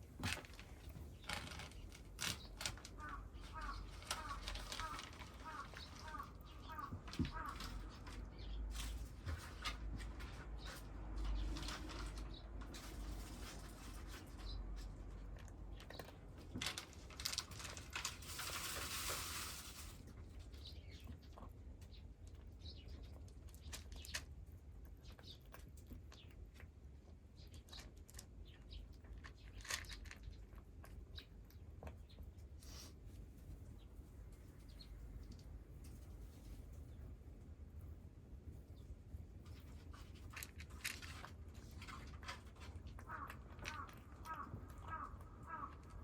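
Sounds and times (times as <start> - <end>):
cats crunching dry food: 0.0 - 34.6, 39.0 - 46.0.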